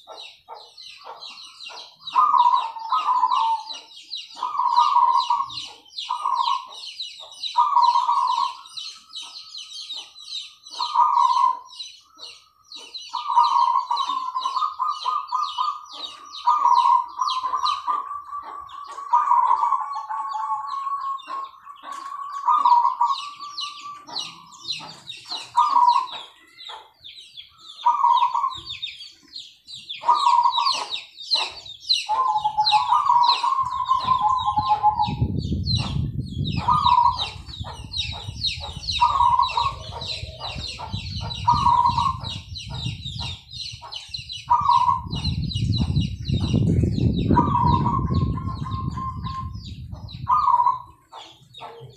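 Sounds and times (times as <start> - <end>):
small birds chirping rapidly: 0.0 - 51.9
dove cooing: 1.0 - 26.9, 27.8 - 28.8, 30.0 - 51.9.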